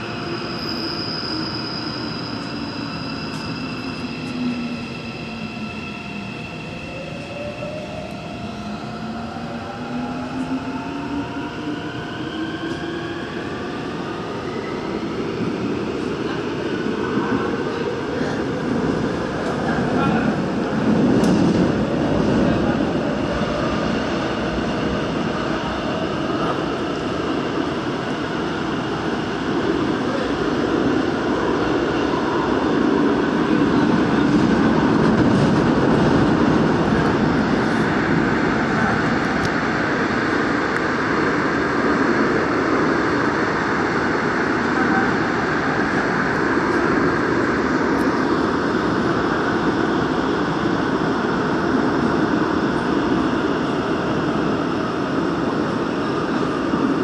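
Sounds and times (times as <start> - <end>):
subway train wheels on rails: 0.0 - 57.0.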